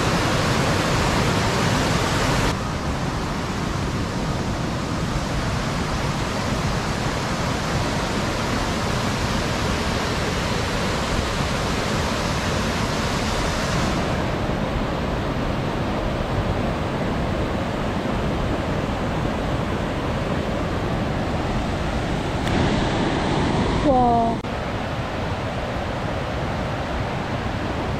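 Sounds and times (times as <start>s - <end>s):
stream rushing over boulders: 0.0s - 27.9s.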